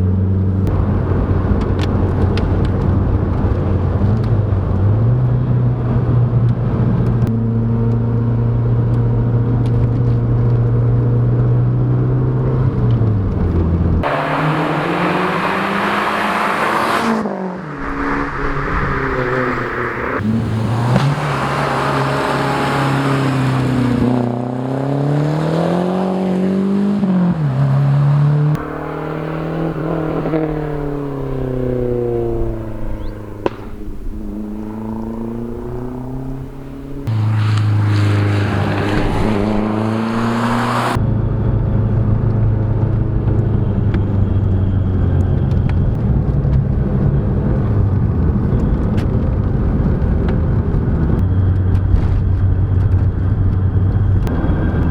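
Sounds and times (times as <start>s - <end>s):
car engine accelerating through gears: 0.0s - 54.9s.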